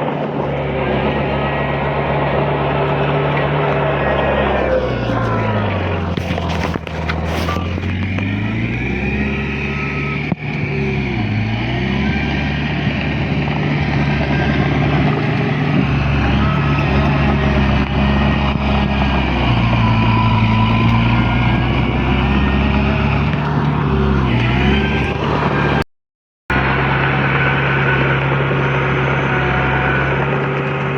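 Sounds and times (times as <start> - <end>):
heavy diesel engines under load: 0.0 - 25.9, 26.5 - 30.9.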